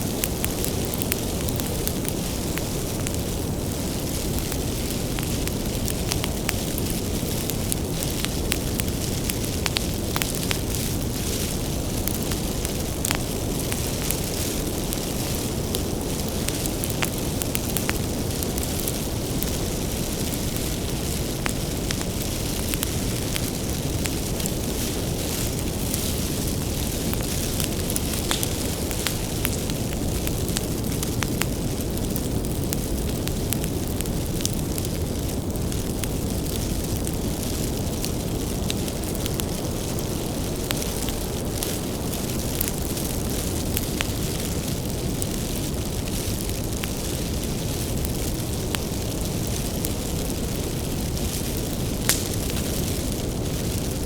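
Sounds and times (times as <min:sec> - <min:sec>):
bonfire low rumble: 0:00.0 - 0:54.0
firewood crackling and popping: 0:00.0 - 0:54.0.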